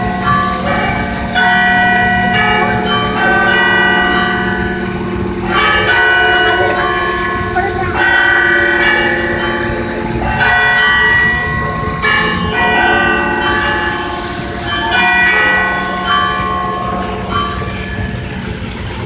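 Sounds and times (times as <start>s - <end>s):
church bells pealing: 0.0s - 19.0s.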